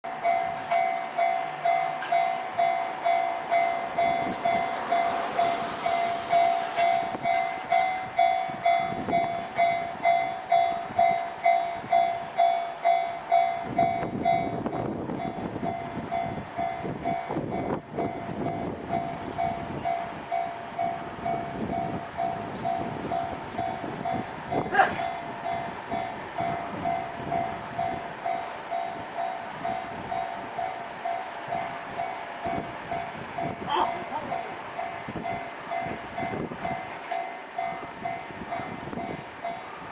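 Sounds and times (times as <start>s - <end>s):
train wheels rumbling and clattering: 0.0s - 39.9s.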